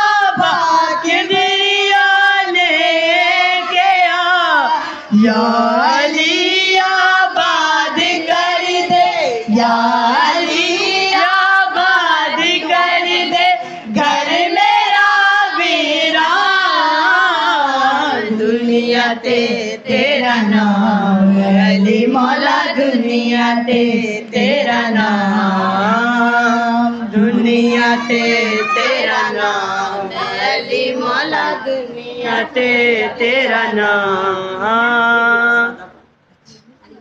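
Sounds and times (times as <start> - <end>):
person singing devotional song: 0.0 - 36.1.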